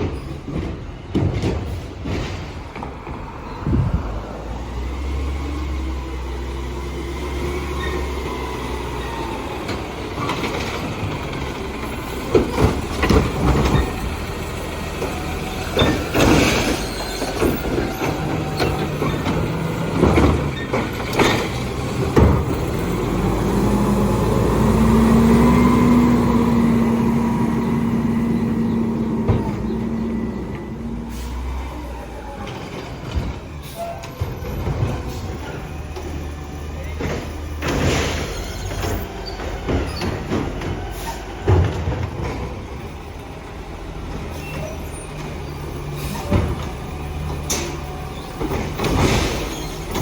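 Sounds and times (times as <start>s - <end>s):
garbage truck engine running: 0.0s - 50.0s
hydraulics working: 0.0s - 50.0s.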